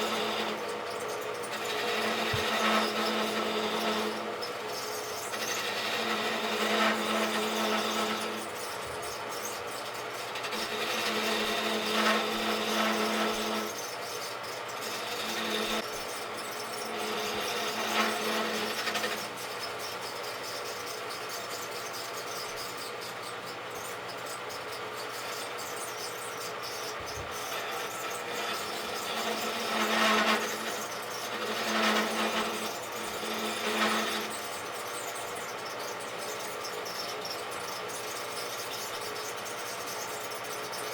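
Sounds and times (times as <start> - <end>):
lathe motor hum: 0.0 - 40.8
tool scraping spinning wood: 0.0 - 40.9.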